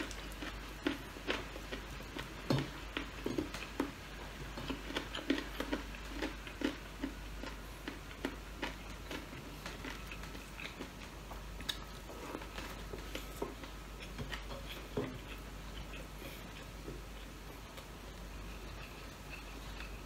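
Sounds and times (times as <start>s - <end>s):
chewing and biting smacks: 0.0s - 4.0s, 4.6s - 17.9s.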